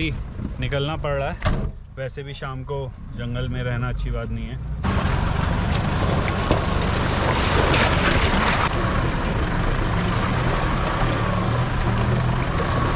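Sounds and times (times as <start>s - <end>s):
road and wind noise: 0.0s - 12.9s
vehicle engine hum: 0.0s - 12.9s.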